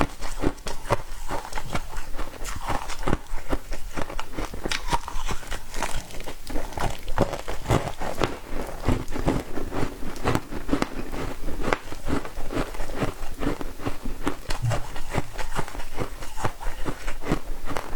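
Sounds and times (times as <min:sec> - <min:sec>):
ice being chewed crunching: 0:00.0 - 0:17.9.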